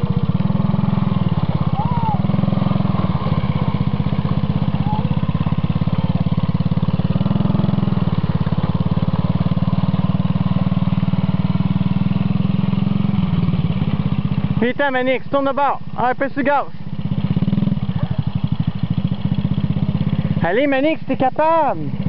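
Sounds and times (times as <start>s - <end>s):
atv engine chugging: 0.0s - 22.0s.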